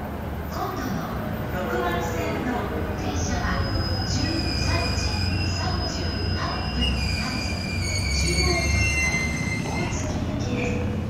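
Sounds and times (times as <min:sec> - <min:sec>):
train rumble: 0:00.0 - 0:11.0
electric train slowing down: 0:01.6 - 0:11.0.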